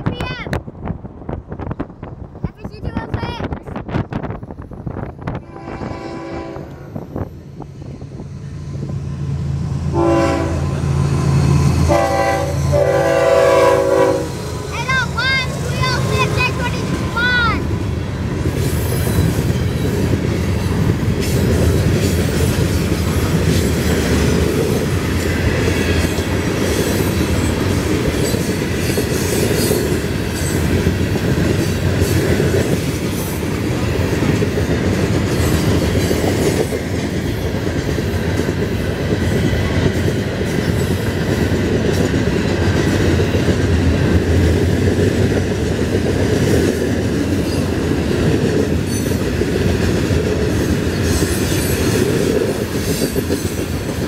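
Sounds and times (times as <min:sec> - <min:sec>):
freight train rolling past: 0:00.4 - 0:54.0.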